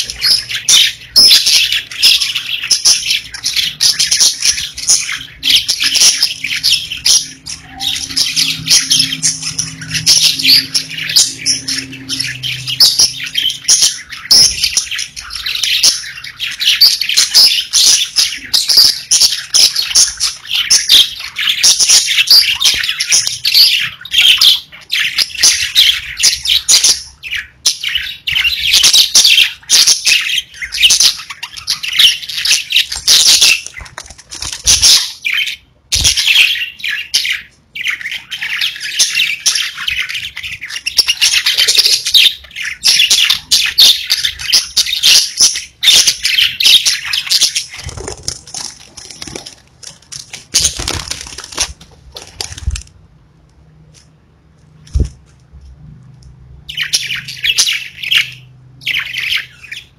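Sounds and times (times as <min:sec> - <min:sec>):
budgerigars chirping: 0:00.0 - 0:52.9, 0:56.6 - 0:59.9.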